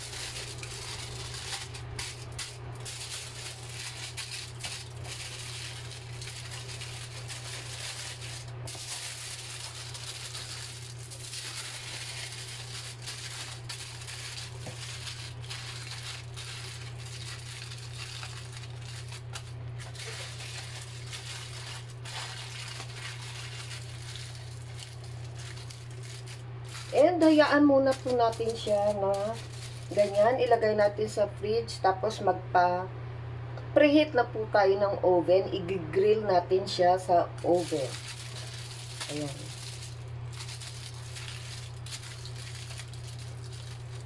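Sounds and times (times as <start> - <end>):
aluminum foil crinkling: 0.0 - 31.1, 37.4 - 44.0
steady low hum: 0.0 - 44.0.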